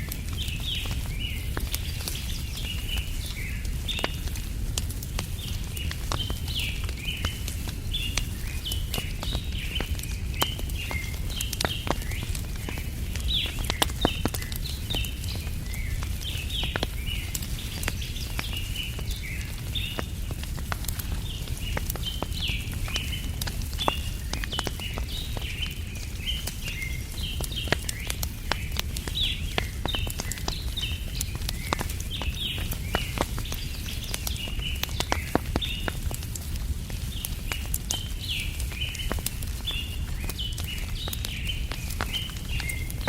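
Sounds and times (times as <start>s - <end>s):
campfire crackling and popping: 0.0s - 43.0s
birds chirping: 0.2s - 43.0s.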